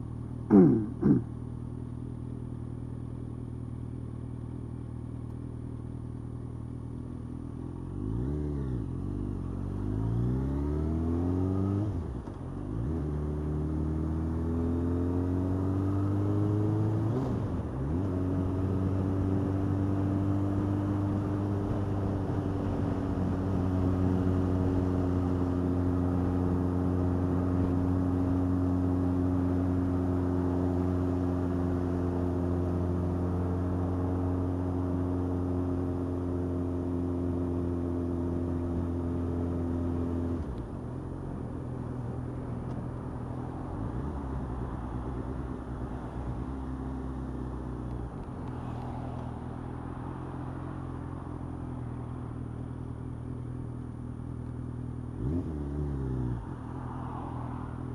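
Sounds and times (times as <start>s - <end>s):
motorcycle engine revving: 0.0s - 1.3s, 7.6s - 44.3s, 45.0s - 57.9s.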